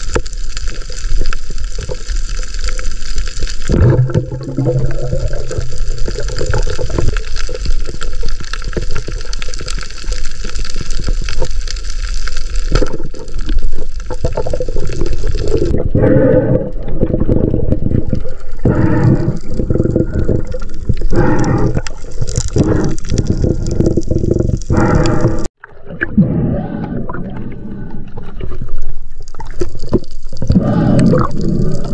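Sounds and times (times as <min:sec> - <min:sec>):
underwater rushing and gurgling water: 0:00.0 - 0:31.9.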